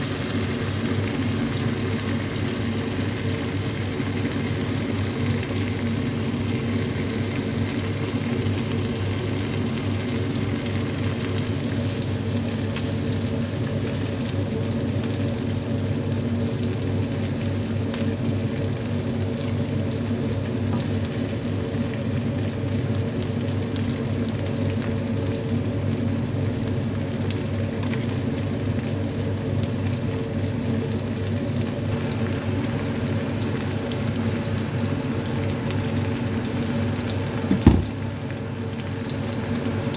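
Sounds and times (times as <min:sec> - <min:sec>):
vegetables sizzling in sauce: 0:00.0 - 0:39.9.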